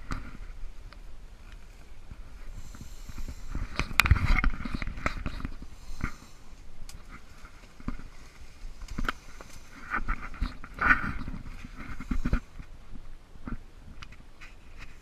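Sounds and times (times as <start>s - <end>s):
leaves and branches rustling: 0.0s - 15.0s.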